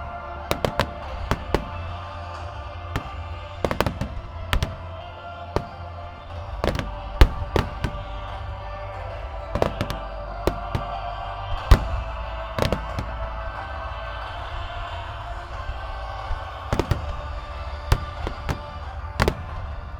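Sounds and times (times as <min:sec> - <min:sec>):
fireworks bangs and crackles: 0:00.0 - 0:19.9
music: 0:00.0 - 0:19.9.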